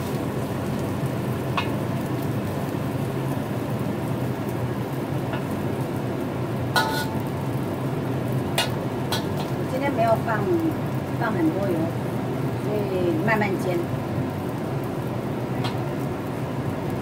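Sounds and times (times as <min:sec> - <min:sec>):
omelette sizzling in a wok: 0:00.0 - 0:17.0.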